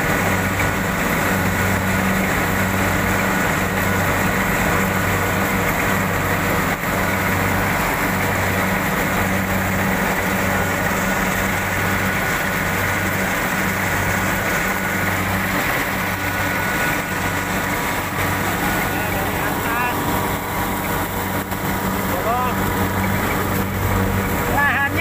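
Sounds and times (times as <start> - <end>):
combine harvester engine humming: 0.0 - 25.0
high machinery whines: 0.0 - 25.0.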